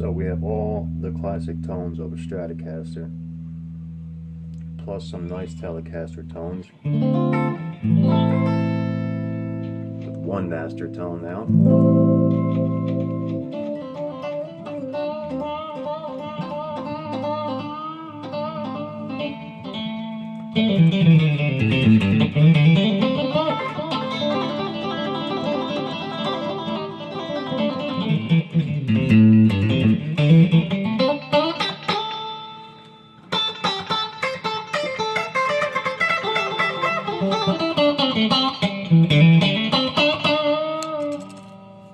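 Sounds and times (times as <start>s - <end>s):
electric guitar through an amp: 0.0s - 41.9s.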